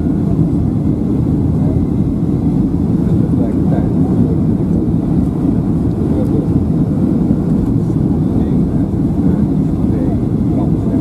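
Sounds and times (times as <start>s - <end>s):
jet engines rumbling: 0.0s - 11.0s
rushing airflow: 0.0s - 11.0s.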